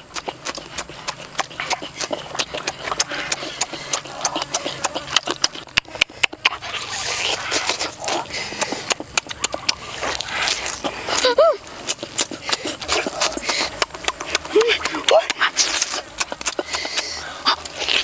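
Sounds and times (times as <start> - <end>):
crunching: 0.0 - 18.0
wet chewing and lip-smacking: 0.0 - 18.0.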